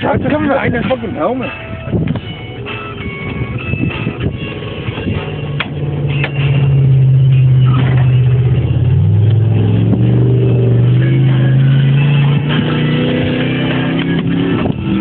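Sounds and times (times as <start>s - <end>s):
music playing: 0.0s - 15.0s
vehicle engine running: 0.0s - 15.0s.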